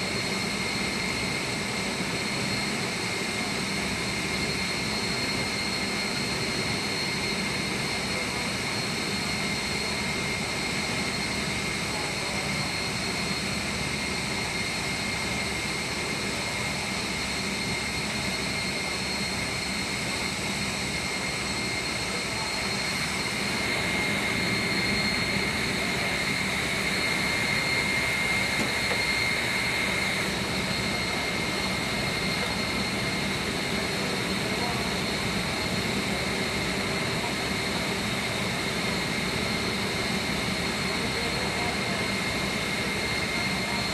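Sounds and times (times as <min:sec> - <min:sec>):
chiller high whine and mechanical rush: 0:00.0 - 0:43.9.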